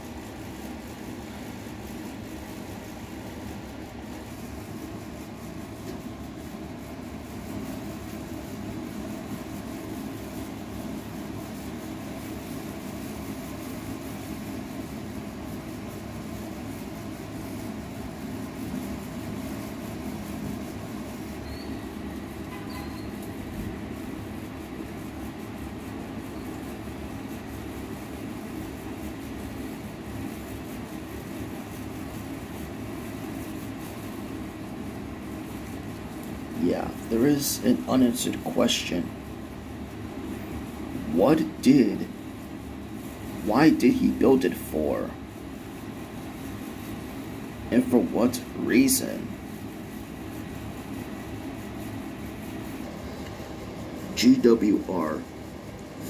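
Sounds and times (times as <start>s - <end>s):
constant hiss: 0.0s - 56.0s
low mechanical rumble: 0.0s - 56.0s.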